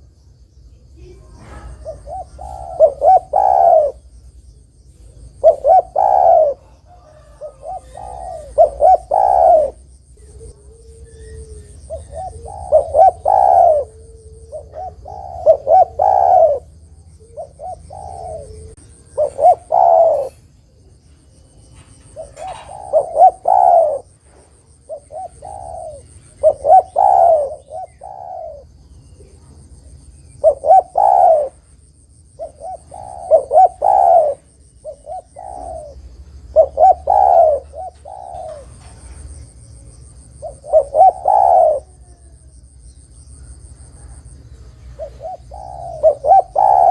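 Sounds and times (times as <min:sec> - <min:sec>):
dove cooing: 0:01.0 - 0:04.3, 0:04.9 - 0:31.7, 0:32.3 - 0:42.6, 0:43.3 - 0:46.9.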